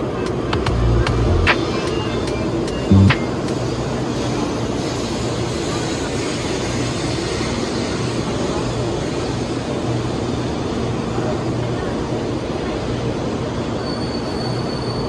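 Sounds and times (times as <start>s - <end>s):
train rolling into platform: 0.0s - 15.0s.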